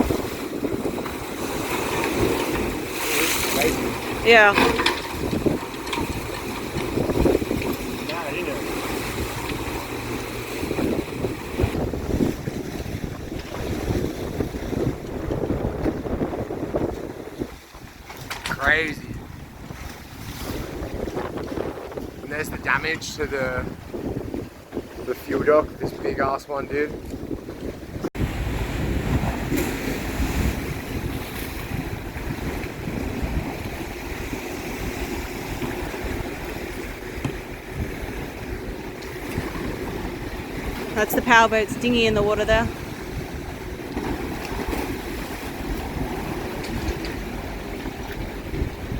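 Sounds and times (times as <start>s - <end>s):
choppy storm waves: 0.0s - 48.9s
wind buffeting microphone: 0.0s - 48.9s.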